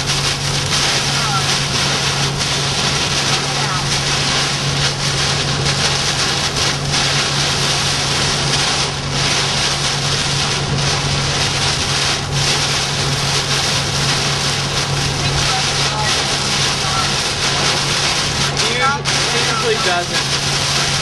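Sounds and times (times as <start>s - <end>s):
low engine drone: 0.0s - 21.0s
road and wind noise: 0.0s - 21.0s.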